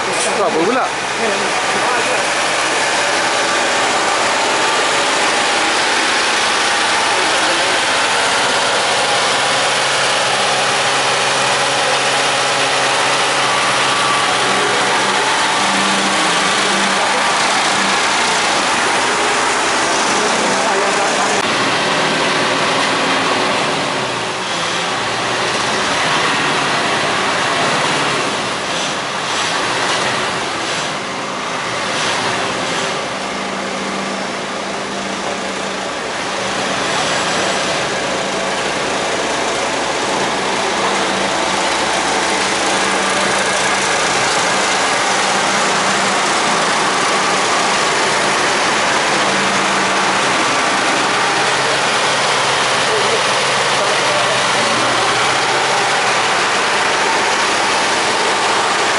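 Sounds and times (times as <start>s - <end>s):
construction machinery engine humming: 0.0s - 58.9s.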